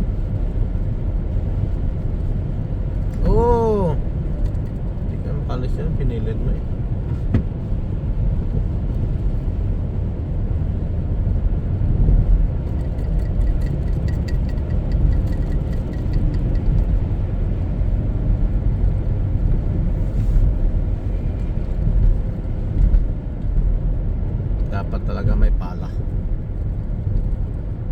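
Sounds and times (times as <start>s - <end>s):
car engine rumbling: 0.0s - 27.9s.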